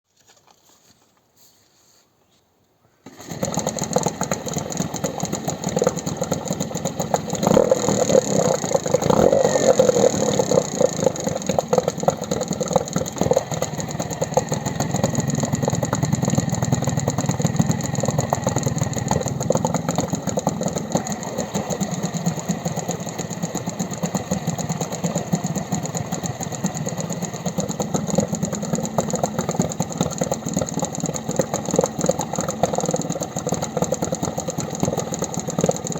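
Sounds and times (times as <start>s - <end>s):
outboard boat motor running: 3.1s - 35.9s.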